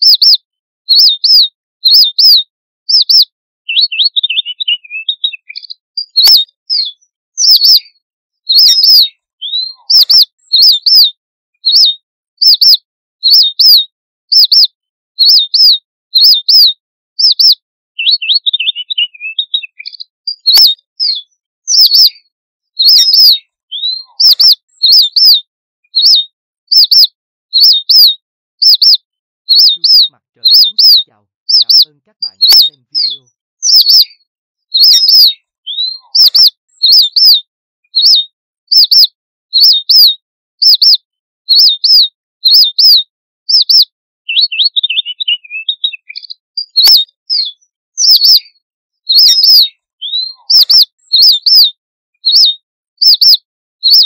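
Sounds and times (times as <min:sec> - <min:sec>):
soft low bird twittering: 0:00.0 - 0:51.6
finch chirping: 0:00.0 - 0:54.0.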